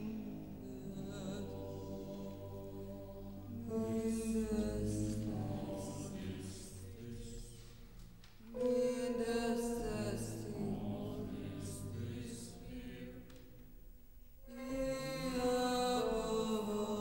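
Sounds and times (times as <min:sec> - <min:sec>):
choir with chamber ensemble: 0:00.0 - 0:13.6, 0:14.4 - 0:17.0.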